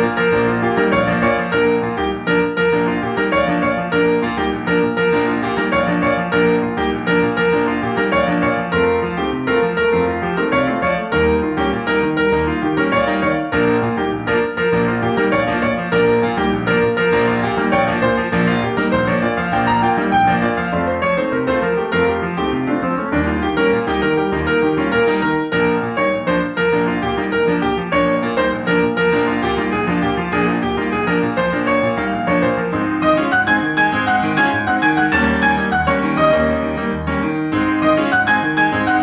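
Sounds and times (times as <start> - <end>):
instrumental piano music: 0.0 - 39.0.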